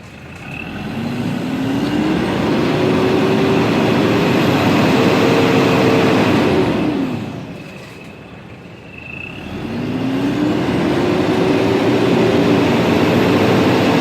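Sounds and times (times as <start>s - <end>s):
diesel engine revving: 0.0s - 8.2s, 8.8s - 14.0s.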